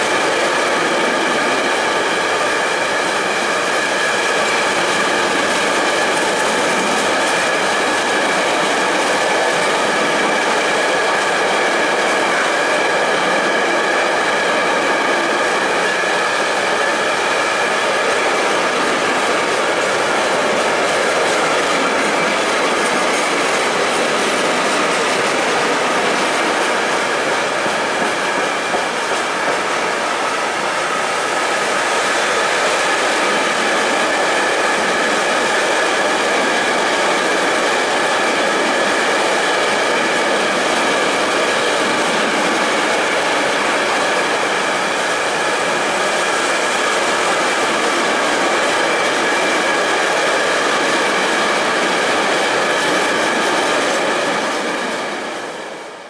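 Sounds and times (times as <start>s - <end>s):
train wheels rumbling and rattling: 0.0s - 56.0s.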